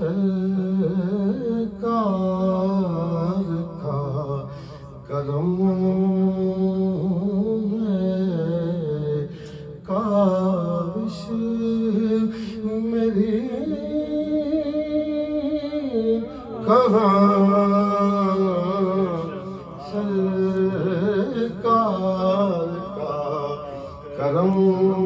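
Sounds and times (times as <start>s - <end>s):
man singing devotional song: 0.0s - 25.0s.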